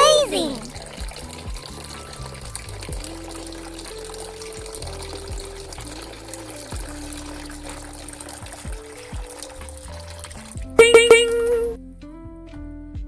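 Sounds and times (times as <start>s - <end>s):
background music with melody and bass: 0.0s - 13.0s
water trickling from a tap: 0.5s - 11.8s.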